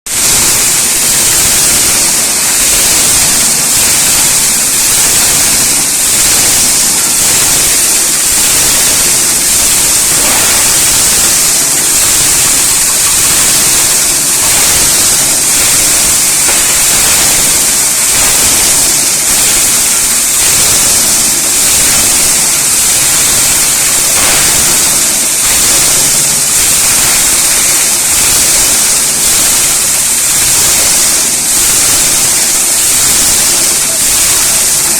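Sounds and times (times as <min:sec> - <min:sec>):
grinder machine rushing noise: 0:00.1 - 0:34.9.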